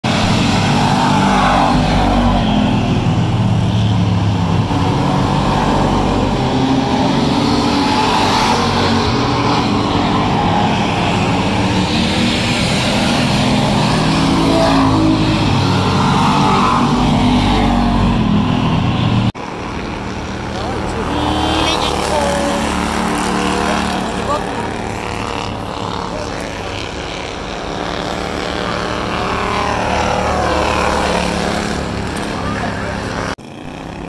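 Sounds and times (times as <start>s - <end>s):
race car engines passing: 0.0s - 34.0s.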